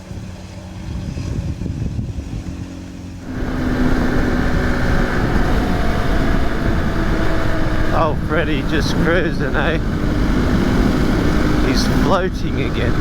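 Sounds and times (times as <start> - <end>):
dirt bike engine running: 2.3 - 13.0.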